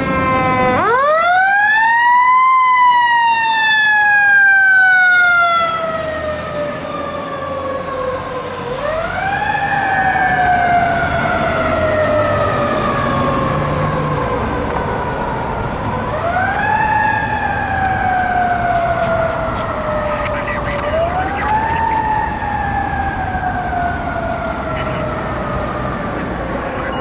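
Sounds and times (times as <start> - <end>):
fire truck siren wailing: 0.0 - 27.0.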